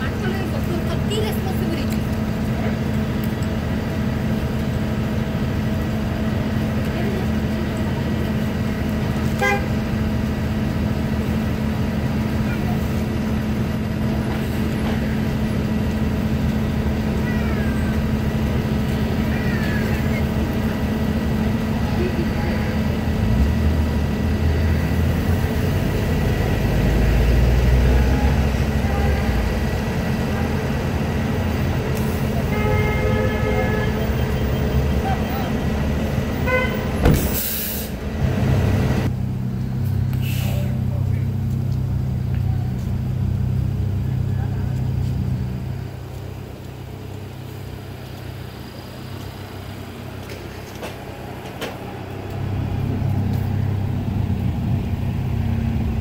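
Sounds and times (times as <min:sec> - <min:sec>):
bus engine rumble: 0:00.0 - 0:56.0
city street traffic: 0:00.0 - 0:56.0.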